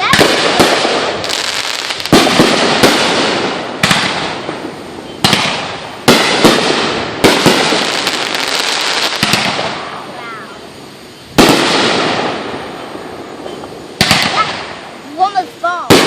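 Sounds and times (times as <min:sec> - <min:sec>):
fireworks bangs with crackling hiss: 0:00.0 - 0:16.0
rapid fireworks crackles: 0:00.0 - 0:16.0.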